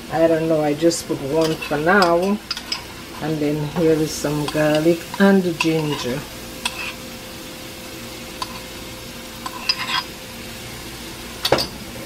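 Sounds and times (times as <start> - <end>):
aromatics sizzling in oil: 0.0 - 12.0.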